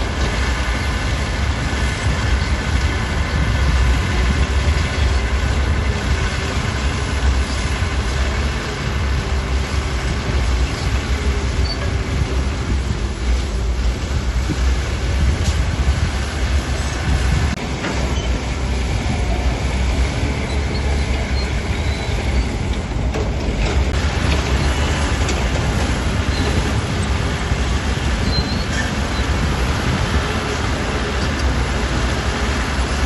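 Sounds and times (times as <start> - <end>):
diesel machinery rumbling: 0.0 - 33.0.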